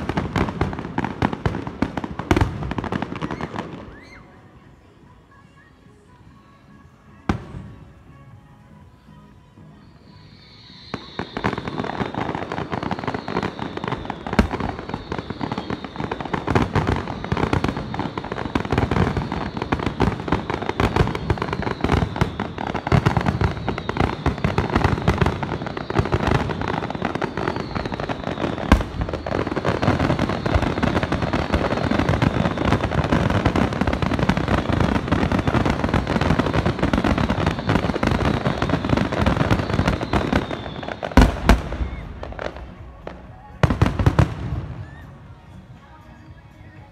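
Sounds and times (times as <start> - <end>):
fireworks crackling and banging: 0.0 - 46.9.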